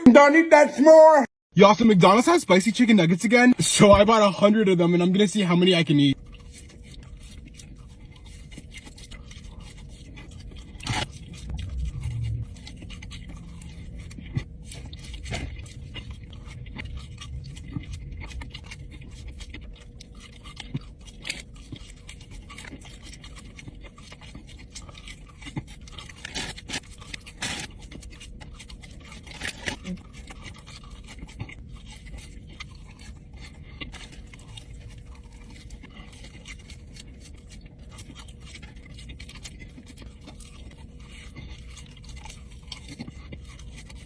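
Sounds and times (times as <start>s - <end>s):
person chewing food: 3.5s - 44.0s.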